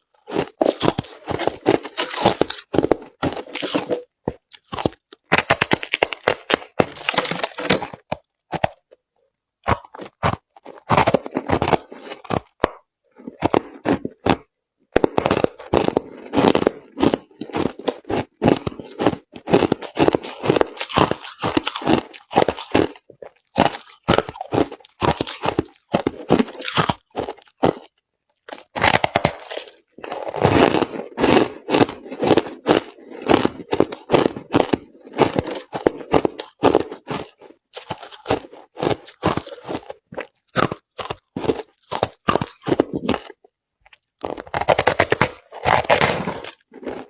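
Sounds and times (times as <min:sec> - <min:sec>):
crushed ice being chewed: 0:00.0 - 0:47.0.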